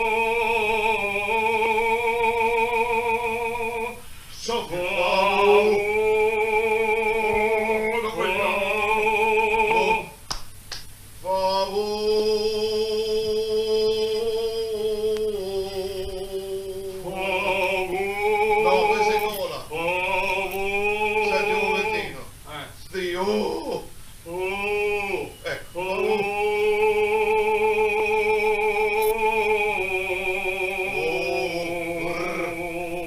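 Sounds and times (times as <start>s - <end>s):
man singing operatically: 0.0s - 10.2s, 11.2s - 22.2s, 23.2s - 33.0s.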